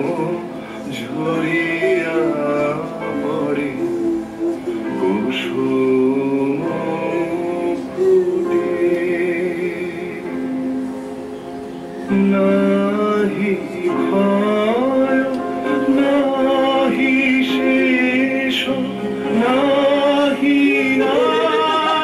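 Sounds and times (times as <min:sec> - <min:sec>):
song with instrumental accompaniment: 0:00.0 - 0:22.0.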